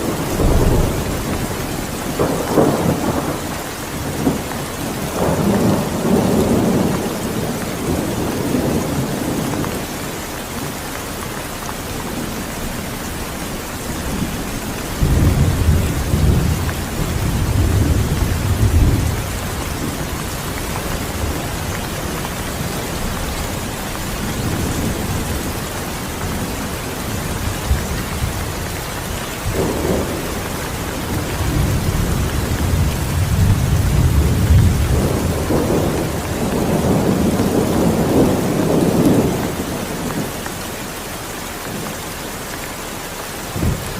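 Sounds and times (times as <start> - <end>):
thunder rumbling: 0.0 - 40.5, 43.5 - 43.9
steady rain: 0.0 - 43.9.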